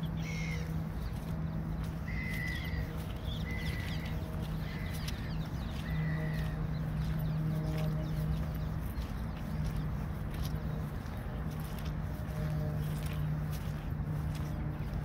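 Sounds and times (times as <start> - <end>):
birds calling: 0.0 - 15.0
low hum: 0.0 - 15.0.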